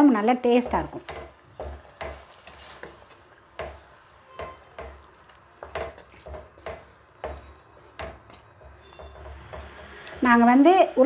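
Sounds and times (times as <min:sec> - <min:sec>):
wooden spatula knocking pot: 0:00.5 - 0:10.3.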